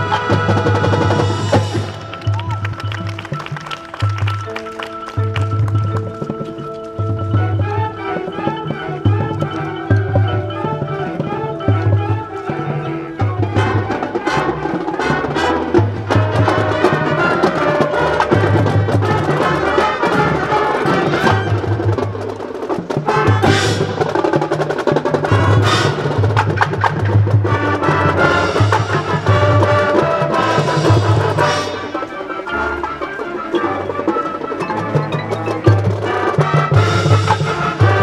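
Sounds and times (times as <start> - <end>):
drumline strokes: 0.0 - 38.0
marching band playing: 0.0 - 38.0
marimbas: 0.0 - 38.0.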